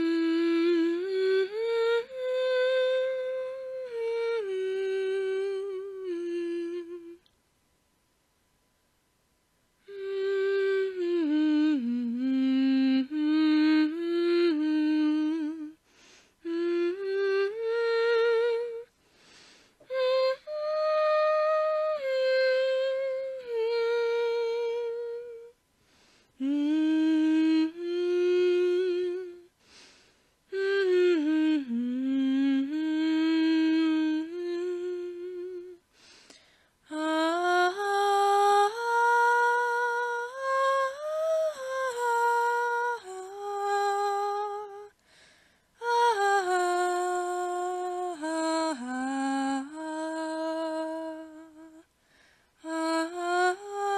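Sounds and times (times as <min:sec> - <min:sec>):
person humming a tune: 0:00.0 - 0:07.3, 0:09.8 - 0:45.0, 0:45.8 - 0:51.9, 0:52.6 - 0:53.9.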